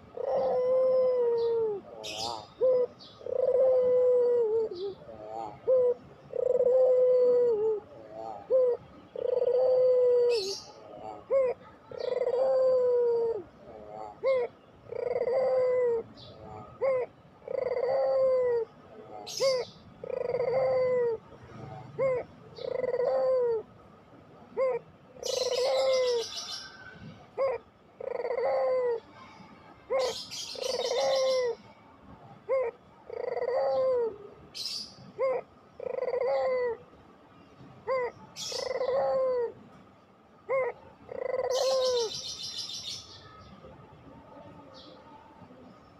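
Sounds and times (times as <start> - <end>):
dove cooing: 0.0 - 23.8, 24.4 - 36.9, 37.8 - 39.8, 40.4 - 43.1.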